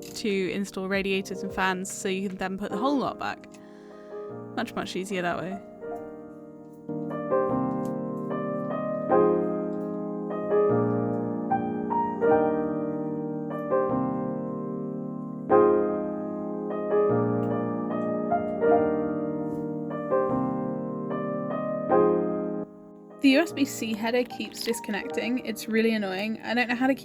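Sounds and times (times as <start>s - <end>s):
gentle piano melody: 0.0s - 27.0s.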